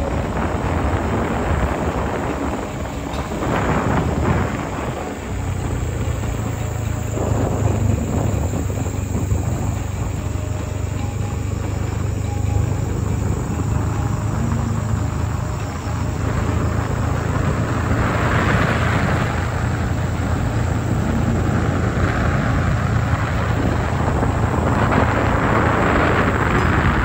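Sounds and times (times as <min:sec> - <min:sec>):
engine and tyres rumbling: 0:00.0 - 0:27.0
rushing wind noise: 0:00.0 - 0:27.0.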